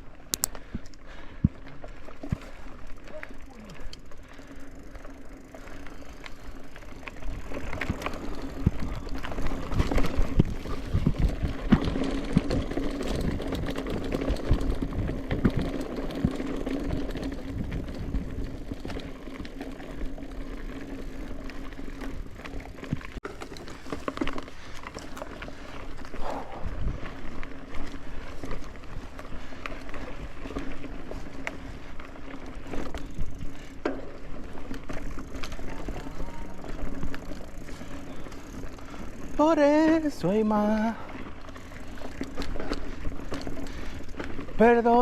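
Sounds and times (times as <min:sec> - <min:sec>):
bike knocking and rattling: 0:00.0 - 0:45.0
bike tyres rolling over dirt: 0:00.0 - 0:45.0.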